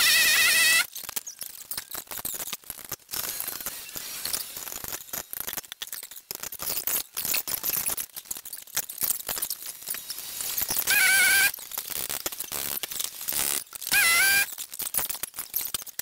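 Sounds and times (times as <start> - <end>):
metal clinks and knocks: 0.9 - 13.9, 14.5 - 16.0.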